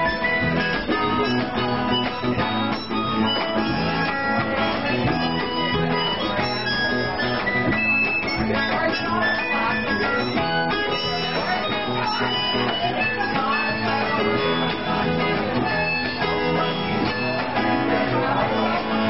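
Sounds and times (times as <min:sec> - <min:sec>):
live band with acoustic guitar: 0:00.0 - 0:19.0.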